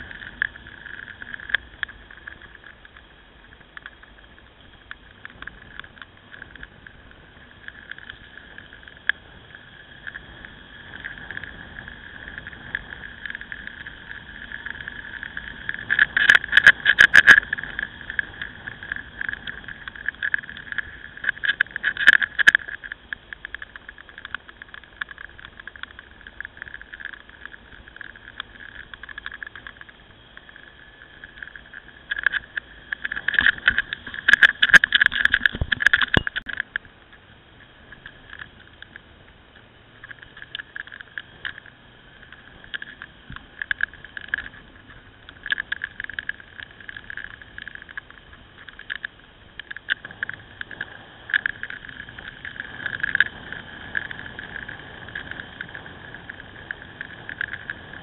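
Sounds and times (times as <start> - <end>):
crackles and rattles: 0.0 - 58.0
muffled motorcycle riding rush: 0.0 - 58.0.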